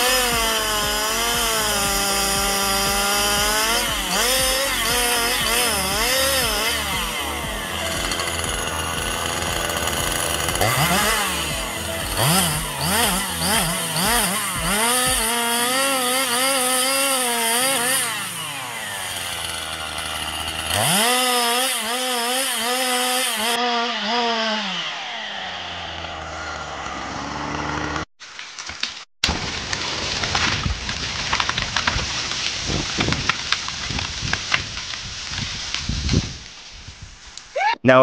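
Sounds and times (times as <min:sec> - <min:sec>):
rustling of branches: 0:00.0 - 0:21.6, 0:25.0 - 0:37.6
branches cracking and snapping: 0:00.0 - 0:24.2, 0:24.8 - 0:36.8
chainsaw cutting wood: 0:00.0 - 0:36.6.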